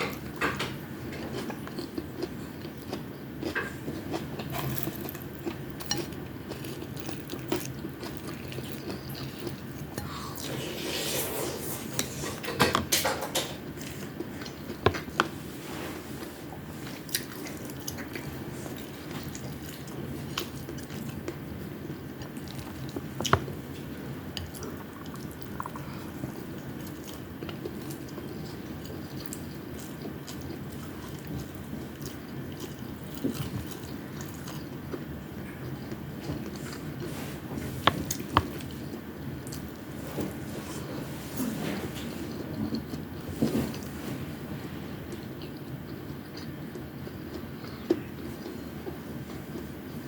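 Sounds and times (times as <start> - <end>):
person chewing food: 0.0 - 41.0, 45.1 - 50.0.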